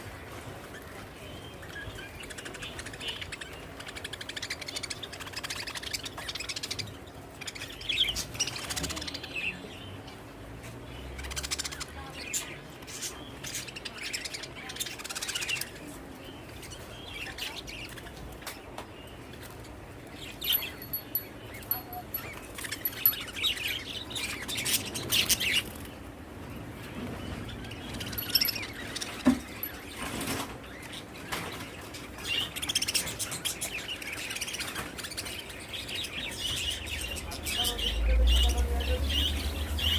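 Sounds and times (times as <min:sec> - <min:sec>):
small birds chirping: 0:00.4 - 0:39.9.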